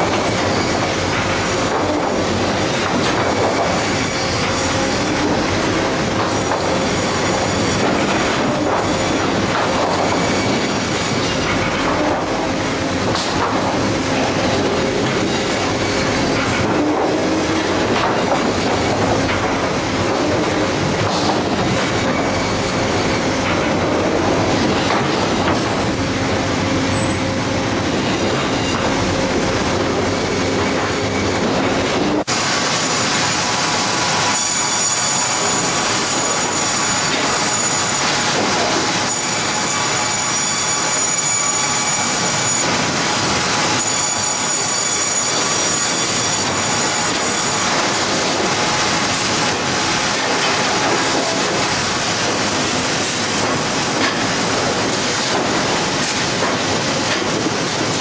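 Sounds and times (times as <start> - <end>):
conveyor metallic clatter: 0.0 - 58.0.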